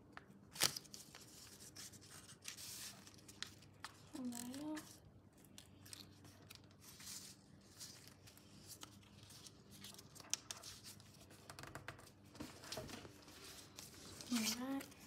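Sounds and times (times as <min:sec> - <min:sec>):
paper rustling and crinkling: 0:00.2 - 0:15.0.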